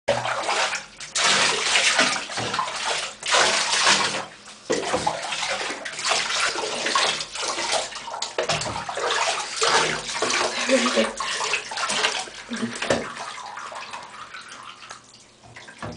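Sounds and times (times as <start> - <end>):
water splashing in bathtub: 0.1 - 15.9.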